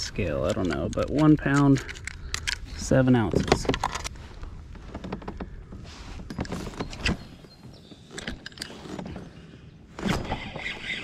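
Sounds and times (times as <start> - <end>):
fishing gear clicking and knocking: 0.0 - 11.0.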